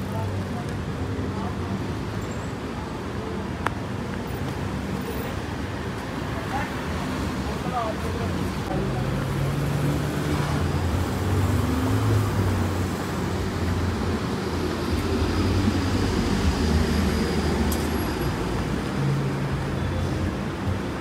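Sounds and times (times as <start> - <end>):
city traffic hum: 0.0 - 21.0
road noise: 0.0 - 21.0.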